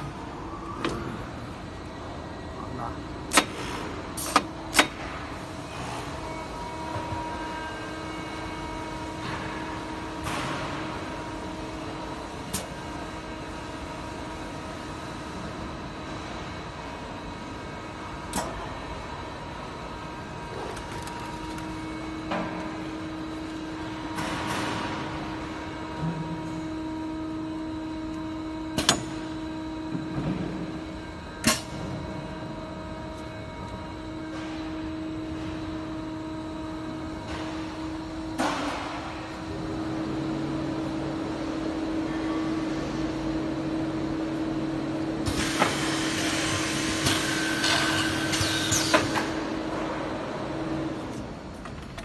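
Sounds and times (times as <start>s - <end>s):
boring machine humming: 0.0s - 52.0s
lower machine hum: 0.0s - 52.0s.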